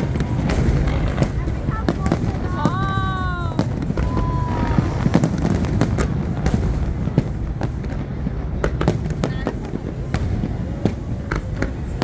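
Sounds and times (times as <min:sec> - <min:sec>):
firework whistling: 0:00.0 - 0:12.0
fireworks bangs: 0:00.0 - 0:12.0.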